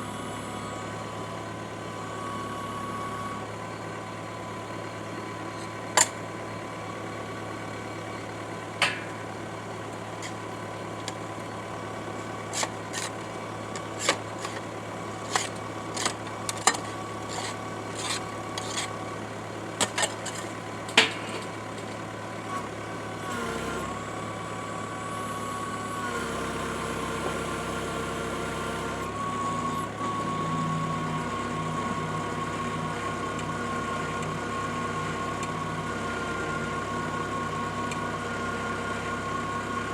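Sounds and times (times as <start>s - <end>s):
auger engine running: 0.0s - 39.9s.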